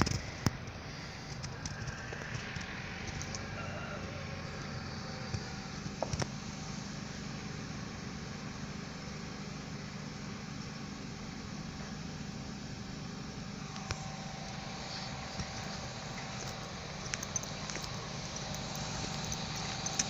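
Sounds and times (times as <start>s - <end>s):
faint hum: 0.0s - 20.0s
low outdoor rumble: 0.0s - 20.0s.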